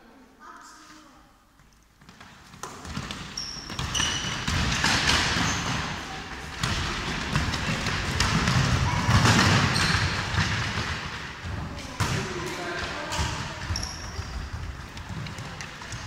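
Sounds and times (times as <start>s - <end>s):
sneaker squeaks: 2.0s - 10.8s, 11.5s - 16.0s
basketball bouncing on wooden floor: 2.0s - 16.0s.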